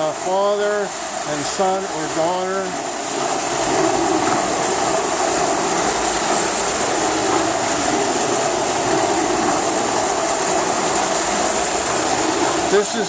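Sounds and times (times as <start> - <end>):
wheels rattling on rails: 1.4 - 13.0.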